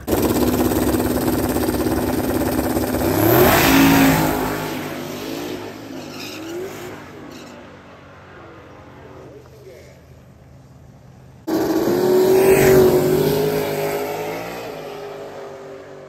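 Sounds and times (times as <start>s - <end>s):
drag car engines at full throttle: 0.0s - 16.0s.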